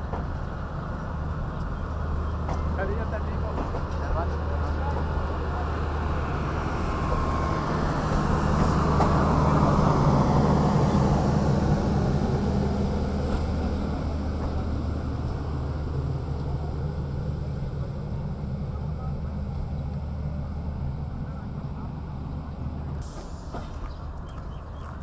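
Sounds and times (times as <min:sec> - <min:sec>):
train coaches rolling past: 0:00.0 - 0:25.0.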